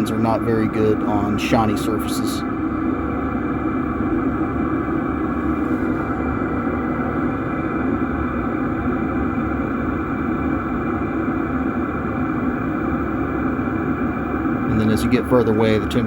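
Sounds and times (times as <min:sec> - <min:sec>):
diesel air heater running: 0:00.0 - 0:16.0.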